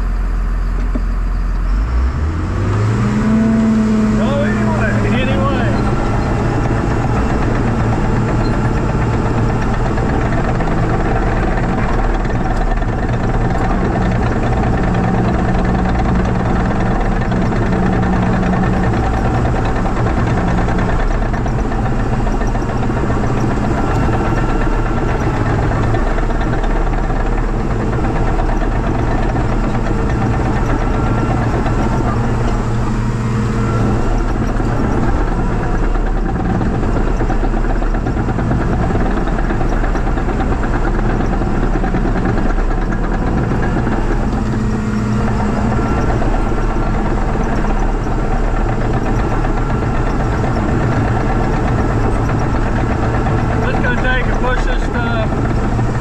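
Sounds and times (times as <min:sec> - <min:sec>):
diesel engine through broken muffler: 0:00.0 - 0:56.0.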